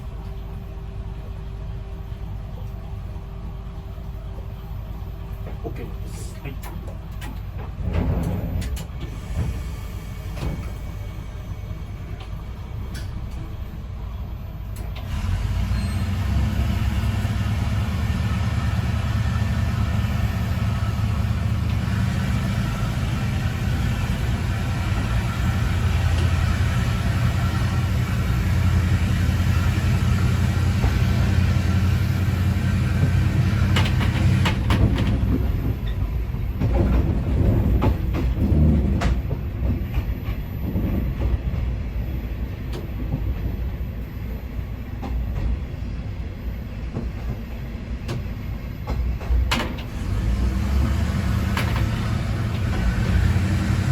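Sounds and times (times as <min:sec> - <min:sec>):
diesel railcar engine: 0:00.0 - 0:53.9.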